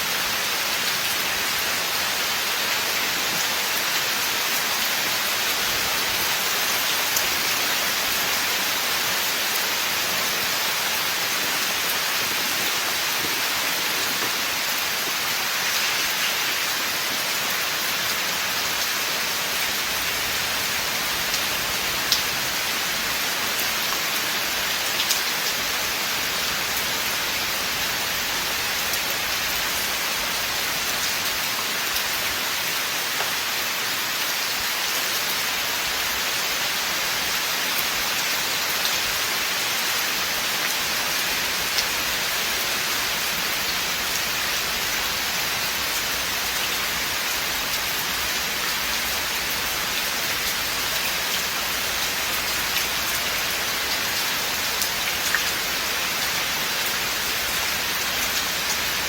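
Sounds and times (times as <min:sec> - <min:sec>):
steady rain in a forest: 0:00.0 - 0:59.0.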